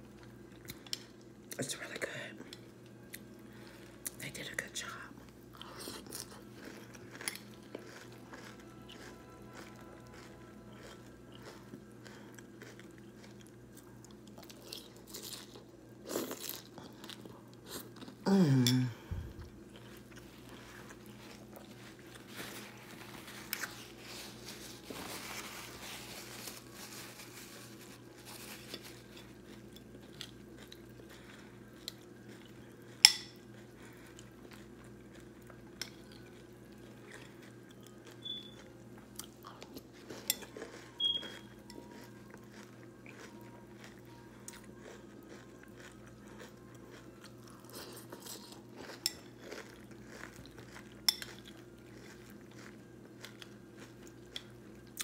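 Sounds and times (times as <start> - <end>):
crunching and chewing cereal: 0.0 - 55.0.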